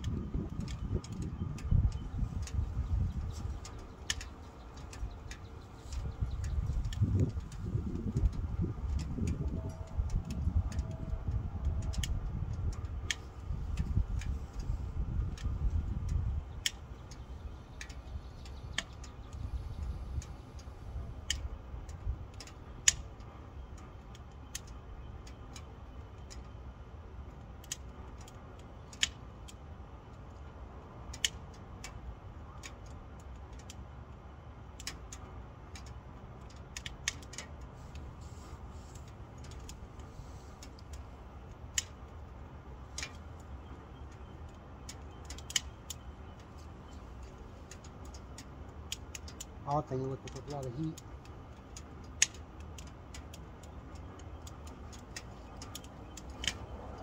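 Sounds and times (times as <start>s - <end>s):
low rumble of stove fire: 0.0s - 57.0s
wood fire ticking and popping: 0.0s - 57.0s.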